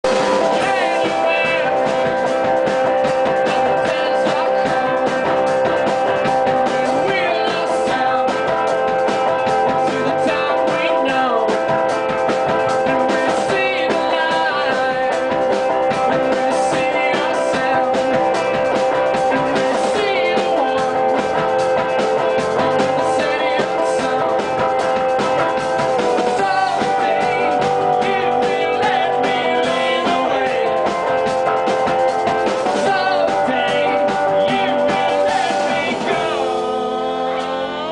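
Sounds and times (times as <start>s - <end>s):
rock band playing live: 0.0s - 37.9s.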